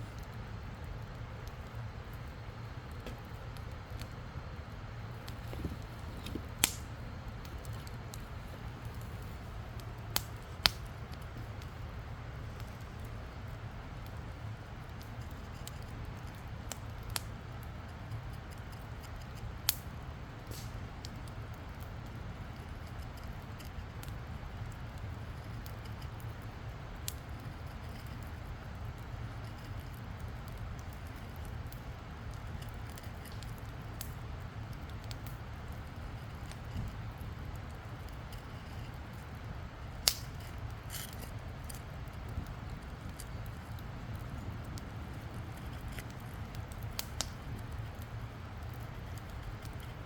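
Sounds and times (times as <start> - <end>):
campfire crackling and popping: 0.0 - 50.0
low fire rumble: 0.0 - 50.0.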